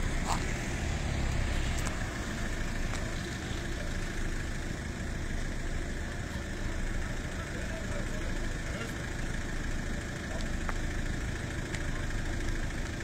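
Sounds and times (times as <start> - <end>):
car engines idling: 0.0 - 13.0.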